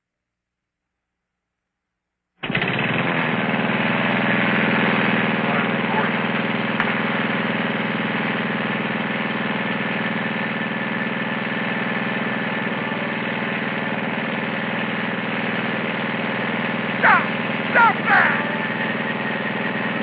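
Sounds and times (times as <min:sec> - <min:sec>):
lawn mower engine running: 0:02.4 - 0:20.0.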